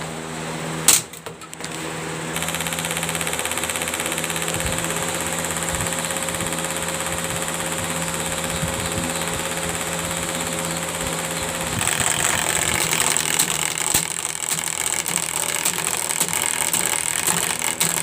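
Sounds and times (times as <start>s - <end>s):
fan motor hum: 0.0s - 18.0s
fan blades clattering on fork: 2.4s - 18.0s.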